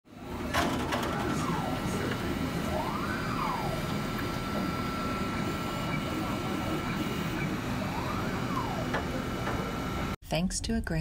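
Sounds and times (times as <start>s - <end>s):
low printer hum: 0.1s - 10.2s
stepper motors whining: 0.1s - 10.2s.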